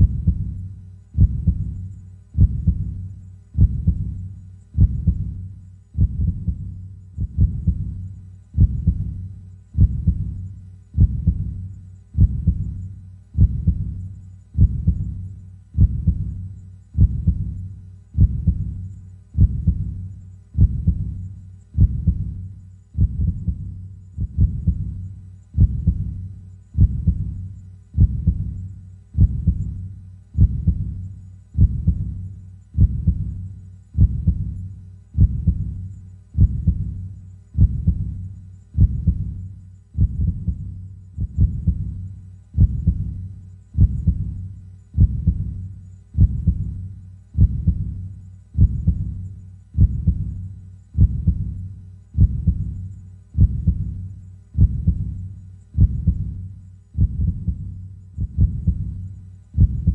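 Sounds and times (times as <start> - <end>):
slow heartbeat thumps: 0.0 - 59.9.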